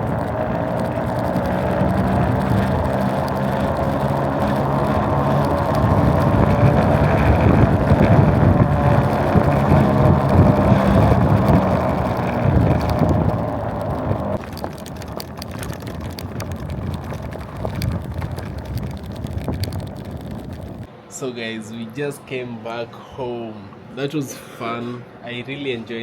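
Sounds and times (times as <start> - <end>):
electric motor hum: 0.0 - 20.9
tyre noise: 0.0 - 20.9
wind noise: 0.0 - 20.9.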